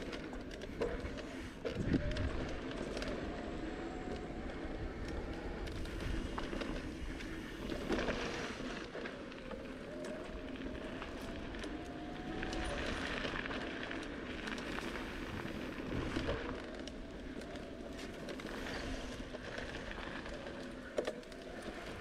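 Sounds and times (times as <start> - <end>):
bicycle tyres on dirt trail: 0.0 - 22.0
small clicks and rattles: 0.0 - 22.0
wind rumble on microphone: 0.0 - 22.0
faint thin whine: 0.1 - 22.0.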